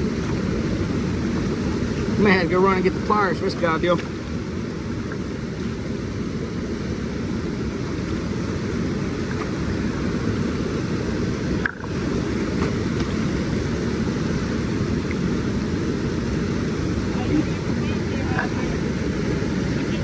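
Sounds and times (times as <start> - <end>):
water rushing below dam: 0.0 - 20.0.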